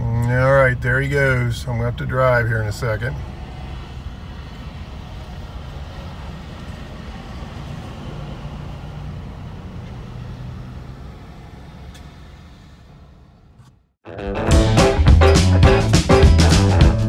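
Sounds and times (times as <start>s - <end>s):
road traffic passing: 0.0s - 17.0s
truck passing close: 0.0s - 17.0s.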